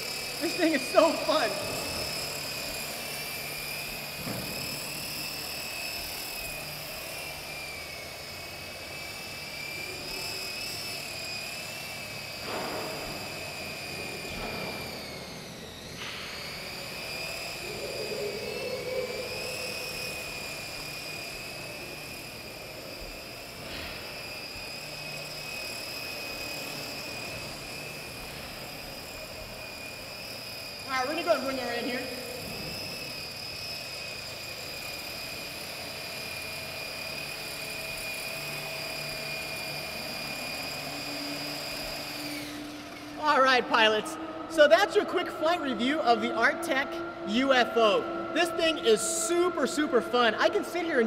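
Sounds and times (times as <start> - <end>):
rc helicopter rotor whine: 0.0 - 51.0.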